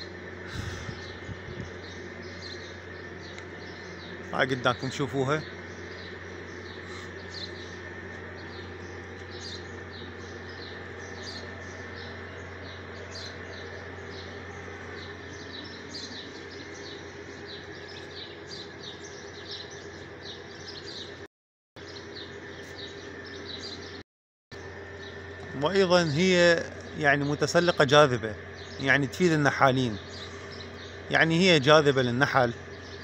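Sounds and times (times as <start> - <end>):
small birds chirping: 0.0 - 24.0, 24.6 - 33.0
steady low hum: 0.0 - 24.0, 24.6 - 33.0.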